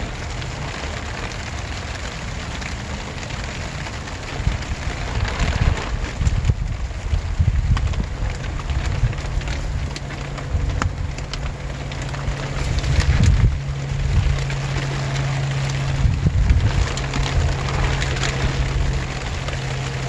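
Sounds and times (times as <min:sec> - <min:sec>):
rain falling: 0:00.0 - 0:20.0
steady low hum: 0:00.0 - 0:20.0
wind buffeting microphone: 0:00.0 - 0:20.0.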